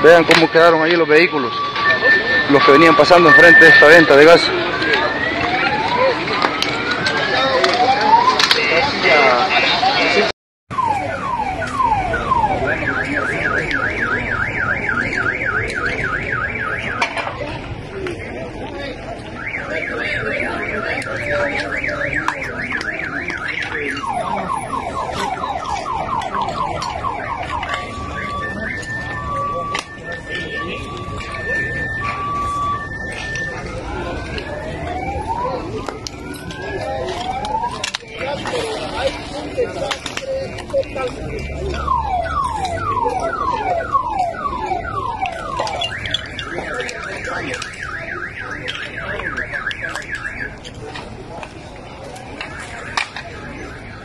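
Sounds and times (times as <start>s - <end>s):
car alarm: 0.0s - 54.0s.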